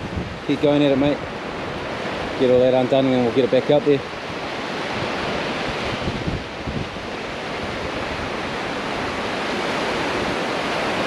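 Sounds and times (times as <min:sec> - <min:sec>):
surf washing up beach: 0:00.0 - 0:11.0
wind buffeting microphone: 0:00.0 - 0:11.0.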